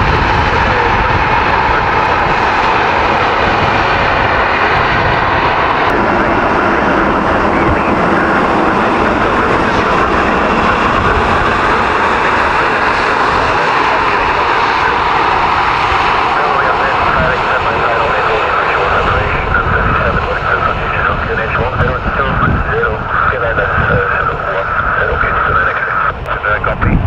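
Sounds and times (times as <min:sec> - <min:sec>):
jet engines taxiing: 0:00.0 - 0:27.0.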